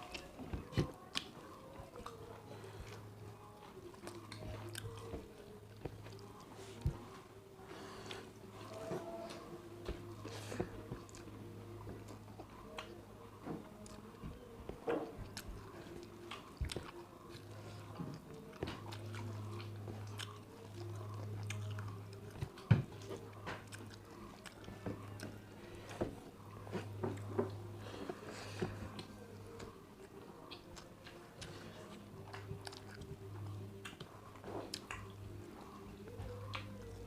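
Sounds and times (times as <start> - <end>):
people chewing and crunching food: 0.0 - 37.0.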